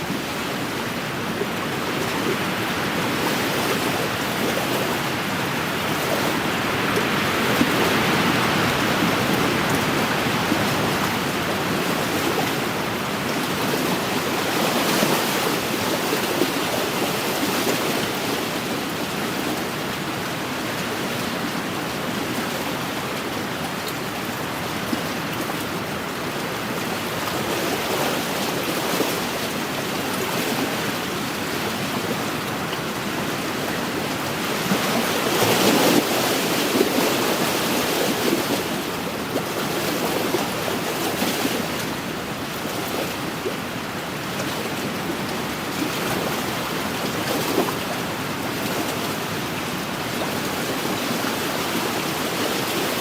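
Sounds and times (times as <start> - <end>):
waves lapping on shore: 0.0 - 53.0
wind: 0.0 - 53.0.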